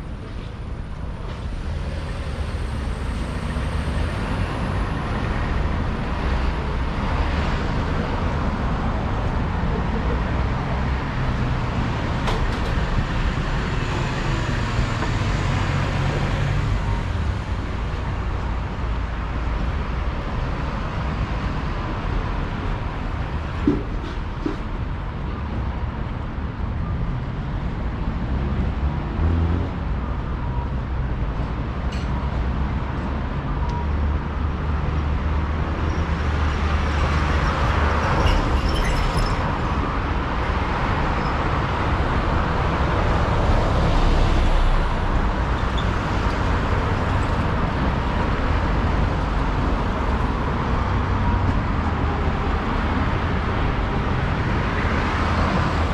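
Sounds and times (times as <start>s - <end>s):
cars and buses passing: 0.0s - 55.9s.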